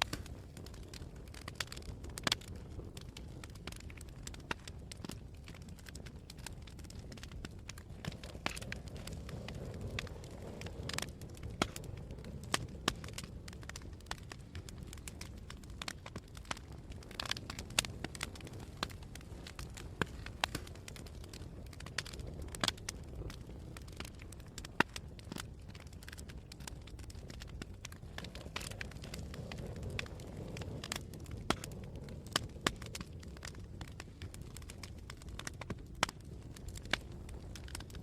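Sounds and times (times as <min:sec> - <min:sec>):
campfire crackling: 0:00.0 - 0:38.0
wind: 0:00.0 - 0:38.0.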